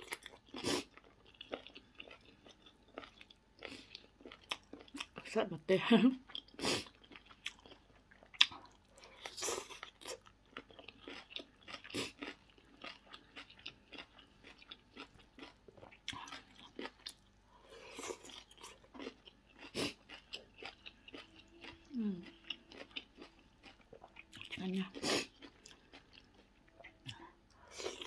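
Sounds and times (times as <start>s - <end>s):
person chewing crunchy salad: 0.0s - 5.4s, 6.2s - 28.0s.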